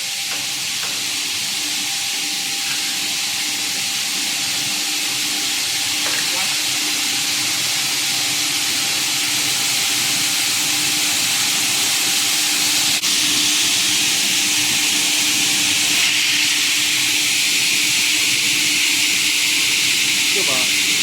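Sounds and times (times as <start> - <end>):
circular saw machine hiss: 0.0 - 21.0.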